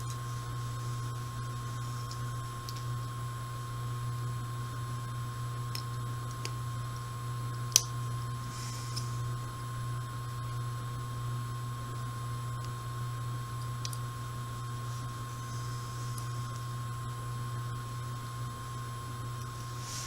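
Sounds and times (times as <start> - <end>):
washing machine hum and whine: 0.0 - 20.0.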